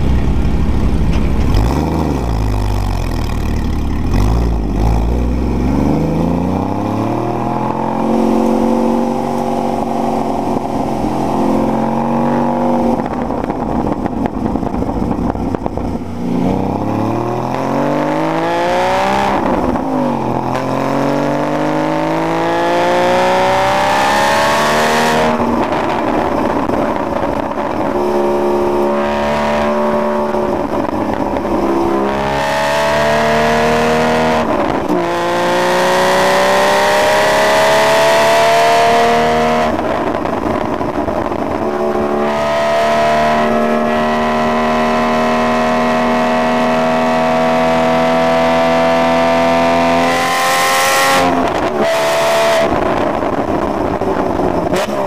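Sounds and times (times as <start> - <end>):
sports car engine accelerating: 0.0 - 55.0.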